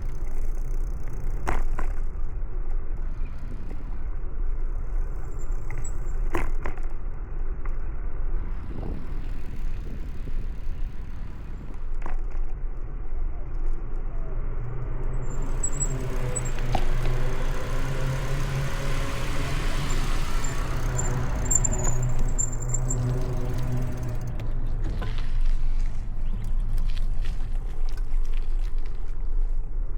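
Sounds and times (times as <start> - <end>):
motor vehicle engine: 0.0 - 28.5
wind and road noise: 0.0 - 29.9.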